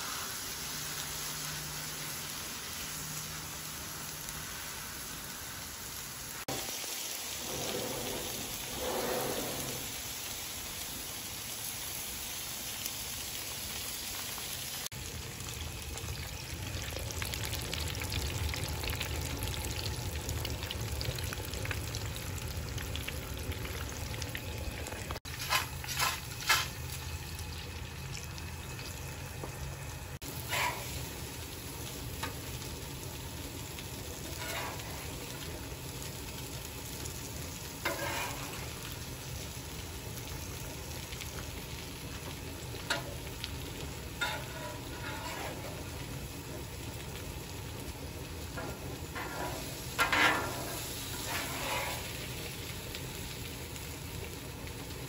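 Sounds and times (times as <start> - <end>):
fries bubbling in deep fryer: 0.0 - 55.0
meat patties sizzling on griddle: 0.0 - 55.0.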